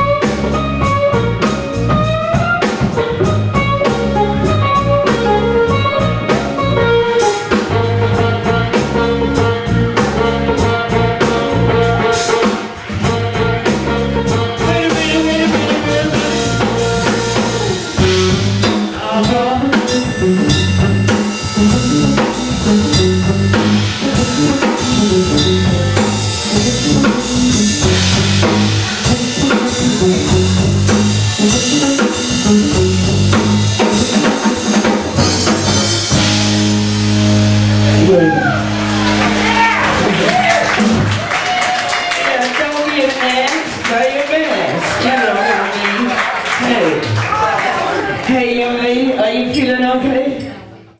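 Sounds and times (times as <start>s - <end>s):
drum kit beat: 0.0s - 50.0s
live band playing: 0.0s - 50.9s.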